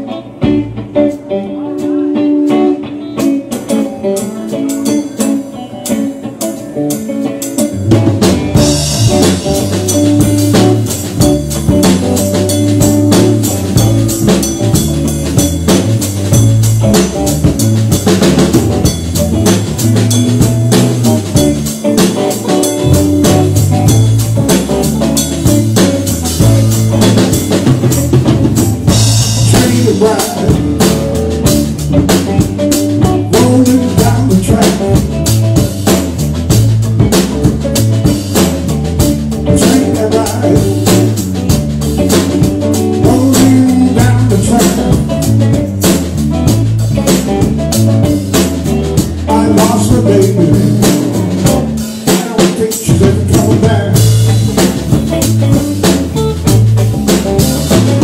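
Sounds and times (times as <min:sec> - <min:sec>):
bass line: 0:00.0 - 0:58.0
drum kit with rimshots: 0:00.0 - 0:58.0
electric guitar: 0:00.0 - 0:58.0.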